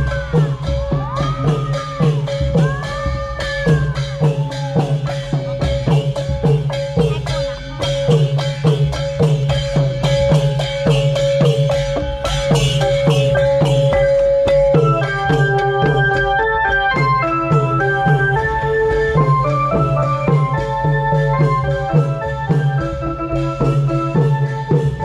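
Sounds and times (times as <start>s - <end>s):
drums beating fast rhythm: 0.0s - 25.0s.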